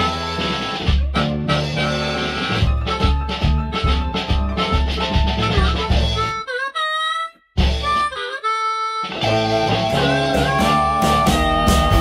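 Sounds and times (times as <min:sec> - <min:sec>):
band playing: 0:00.0 - 0:12.0
lead instrument bending notes: 0:00.0 - 0:12.0.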